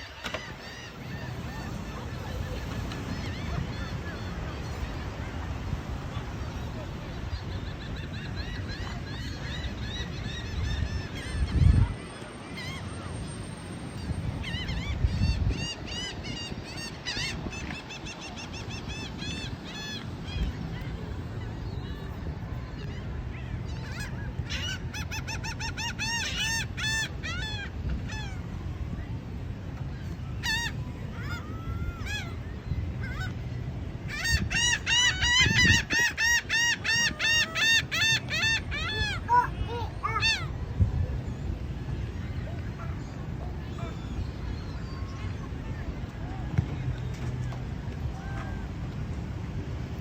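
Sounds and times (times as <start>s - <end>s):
gulls calling: 0.0s - 50.0s.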